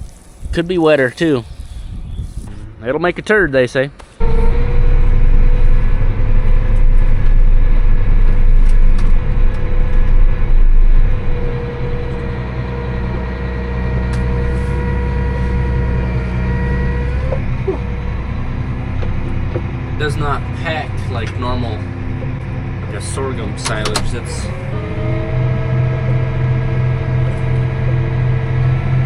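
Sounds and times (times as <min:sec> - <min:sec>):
tractor engine running under load: 0:04.2 - 0:29.0.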